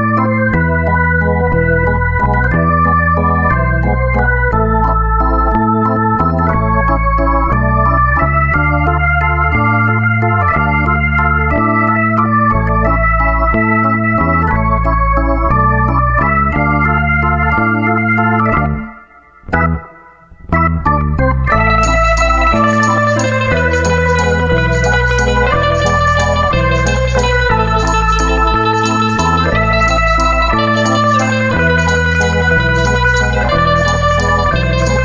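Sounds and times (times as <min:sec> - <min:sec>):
bass line: 0:00.0 - 0:35.0
organ-like chords: 0:00.0 - 0:35.0.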